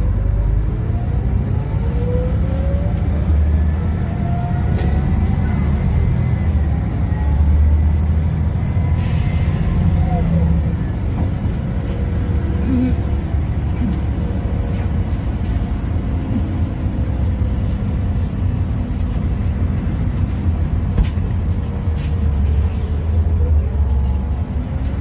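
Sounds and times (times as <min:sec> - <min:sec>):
bus engine low rumble: 0:00.0 - 0:25.0.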